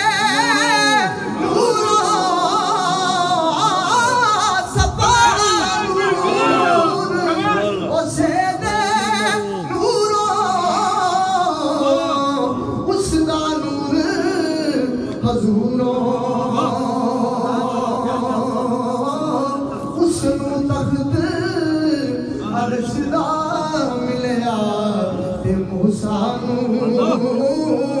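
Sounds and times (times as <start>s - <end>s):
man singing through microphone: 0.0s - 28.0s.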